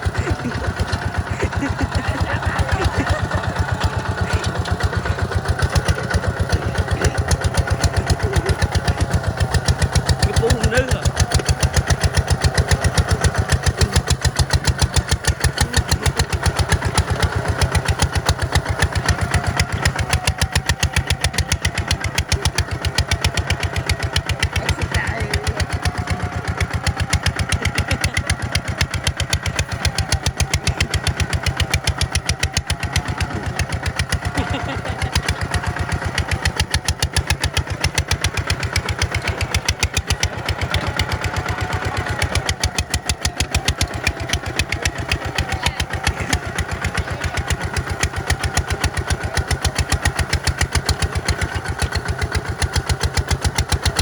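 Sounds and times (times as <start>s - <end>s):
tractor diesel engine chugging: 0.0s - 54.0s.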